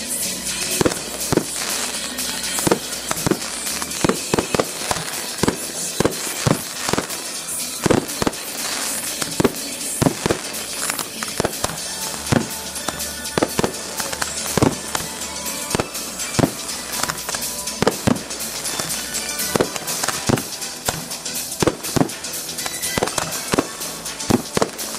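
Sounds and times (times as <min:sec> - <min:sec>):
continuous hiss: 0:00.0 - 0:24.9
firework shells bursting: 0:00.0 - 0:24.9.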